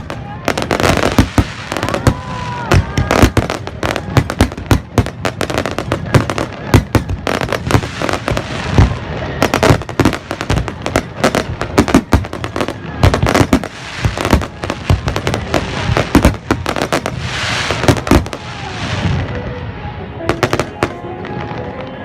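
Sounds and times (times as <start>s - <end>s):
fireworks banging: 0.0s - 22.0s
fireworks crackling hiss: 0.0s - 22.0s.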